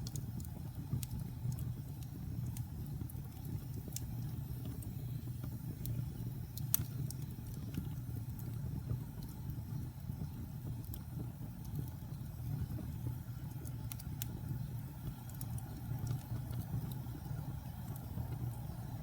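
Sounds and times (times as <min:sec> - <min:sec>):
fire crackles and pops: 0:00.0 - 0:19.0
wood fire rumbling: 0:00.0 - 0:19.0.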